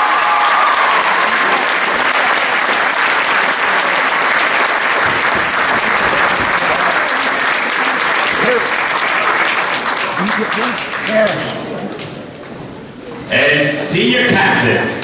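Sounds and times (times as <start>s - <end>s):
crowd applauding: 0.0s - 12.6s.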